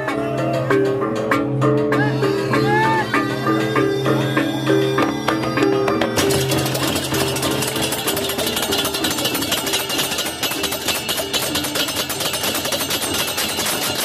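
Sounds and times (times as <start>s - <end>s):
gong-chime melody: 2.1s - 14.0s
cymbals clashing: 2.3s - 14.0s.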